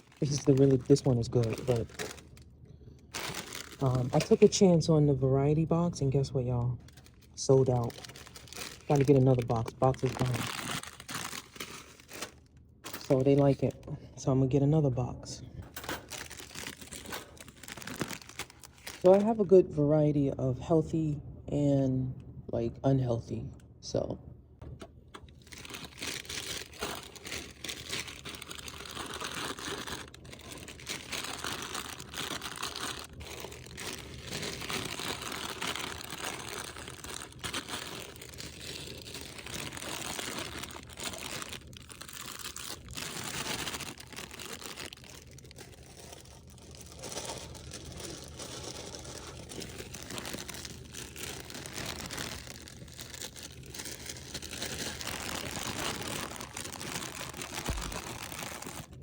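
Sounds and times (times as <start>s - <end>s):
plastic wrappers crinkling: 0.0s - 13.9s, 15.6s - 19.4s, 25.1s - 59.0s.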